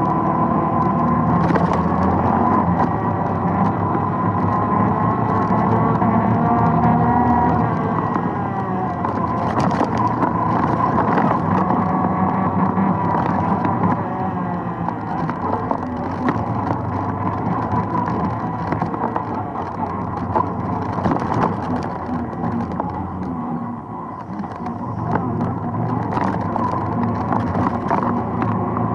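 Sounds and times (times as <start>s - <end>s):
atv engine running: 0.0s - 28.9s.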